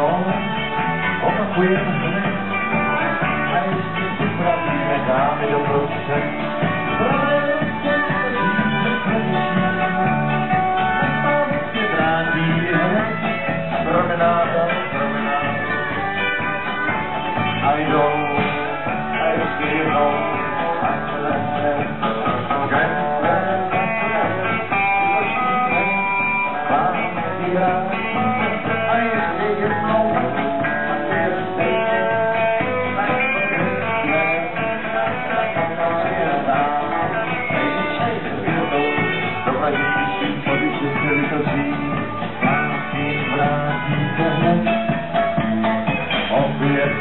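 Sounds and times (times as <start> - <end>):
country band with guitars and banjo: 0.0 - 47.0.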